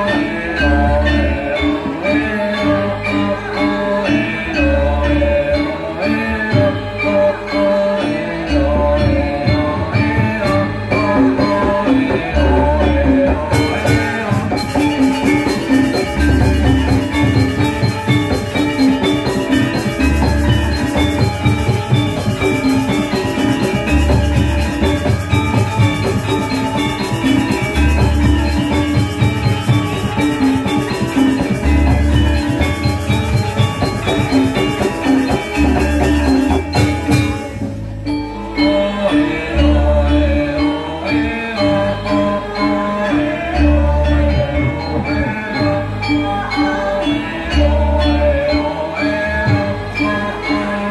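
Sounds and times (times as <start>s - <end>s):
metallophones ringing: 0.0s - 50.9s.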